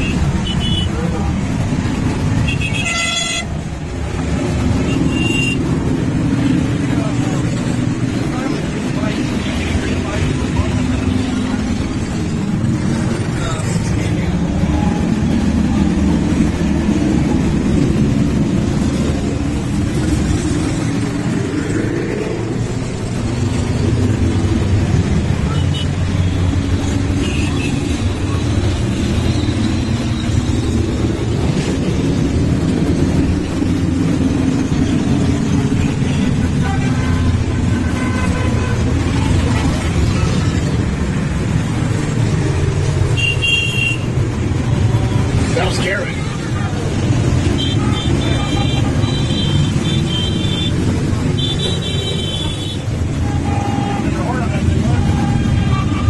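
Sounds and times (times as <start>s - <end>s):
motorcycle engines droning: 3.4s - 56.0s.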